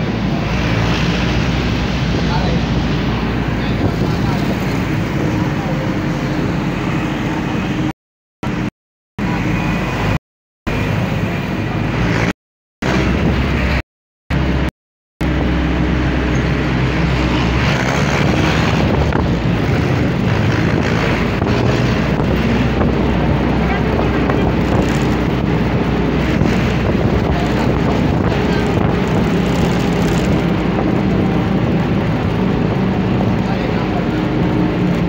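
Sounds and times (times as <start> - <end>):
moving vehicle rumble: 0.0 - 35.0
wind and road noise: 0.0 - 35.0.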